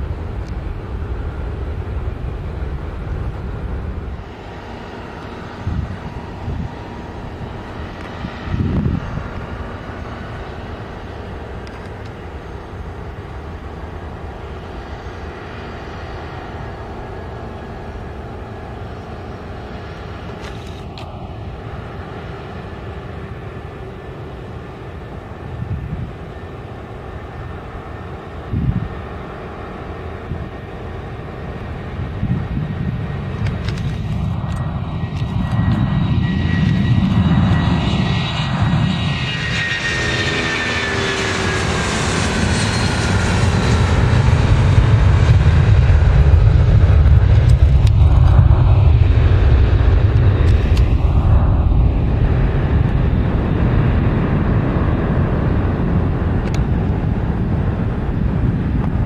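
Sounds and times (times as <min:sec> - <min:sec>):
jet engines at takeoff thrust: 0:00.0 - 0:59.0.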